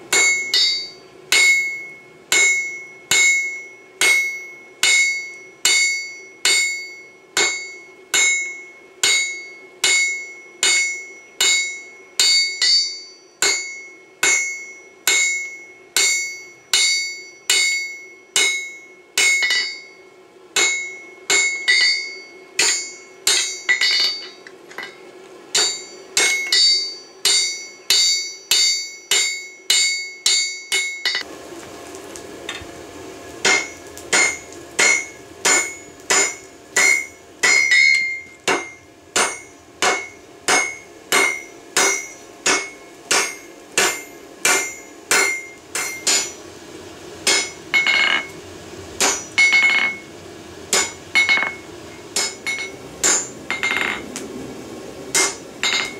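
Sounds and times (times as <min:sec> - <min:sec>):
hammer blows on anvil: 0:00.1 - 0:20.0, 0:20.6 - 0:31.3, 0:33.4 - 0:46.4, 0:47.2 - 0:48.4, 0:49.0 - 0:50.1, 0:50.7 - 0:54.0, 0:55.1 - 0:55.9.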